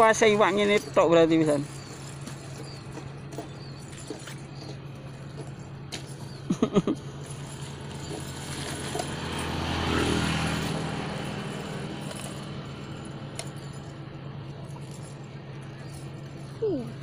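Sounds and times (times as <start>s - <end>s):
chain weights clinking: 0.0s - 17.0s
passing vehicle engine hum: 0.0s - 17.0s.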